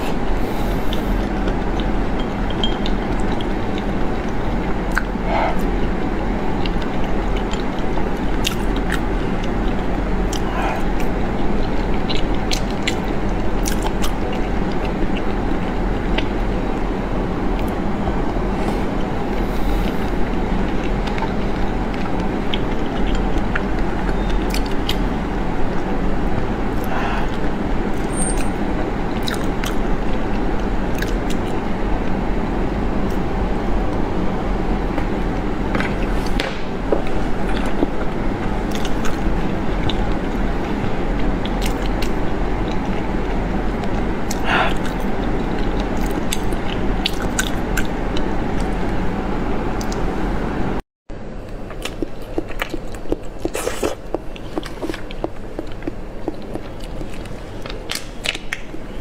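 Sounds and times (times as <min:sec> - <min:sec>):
chewing: 0:00.0 - 0:16.9, 0:17.5 - 0:32.2, 0:34.9 - 0:48.8, 0:51.4 - 0:58.8.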